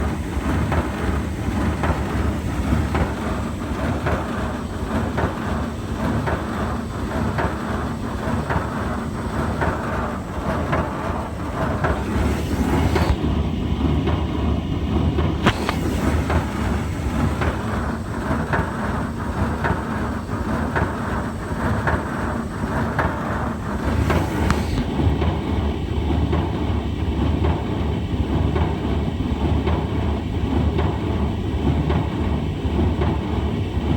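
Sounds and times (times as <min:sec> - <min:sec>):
tumble dryer rumbling and rattling: 0:00.0 - 0:33.9.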